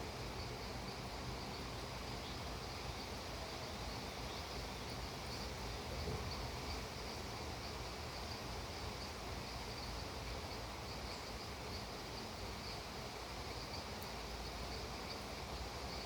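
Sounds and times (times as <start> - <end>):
insect chirping: 0.0 - 16.0
rain hiss: 0.0 - 16.0.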